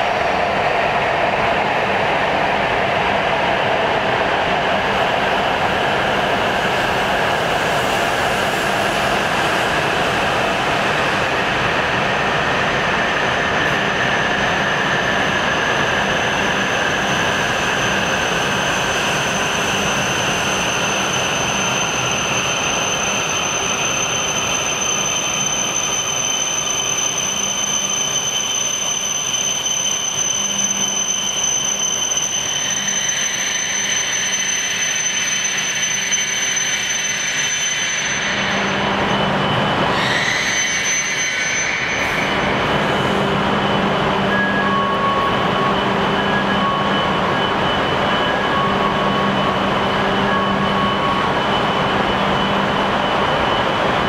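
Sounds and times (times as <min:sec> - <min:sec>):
faint high whine: 0:00.0 - 0:54.0
train wheel and air noise: 0:00.0 - 0:54.0.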